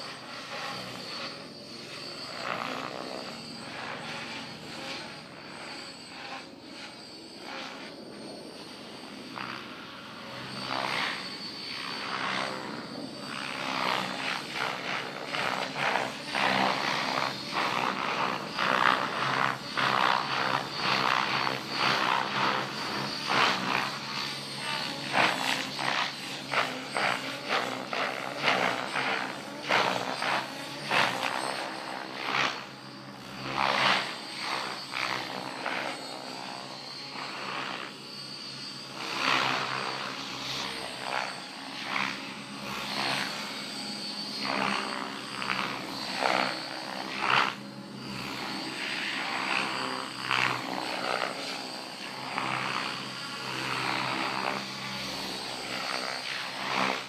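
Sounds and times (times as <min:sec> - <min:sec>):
helicopter motor whine: 0:00.0 - 0:57.0.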